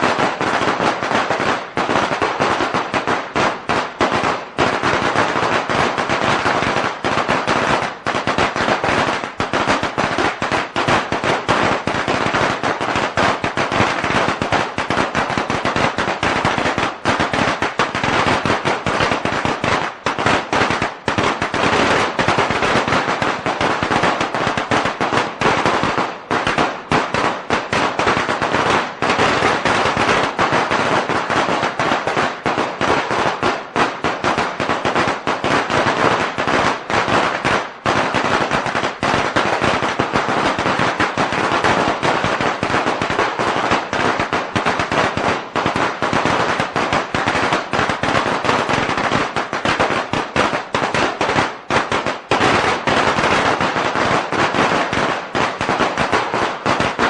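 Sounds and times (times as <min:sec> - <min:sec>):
firecrackers going off: 0:00.0 - 0:57.0.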